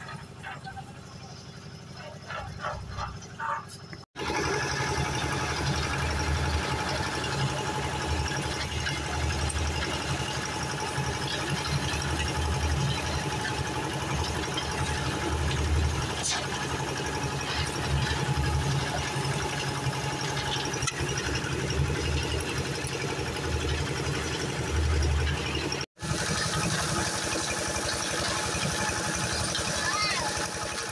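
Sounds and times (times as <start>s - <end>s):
concrete mixer engine running: 0.0s - 30.9s.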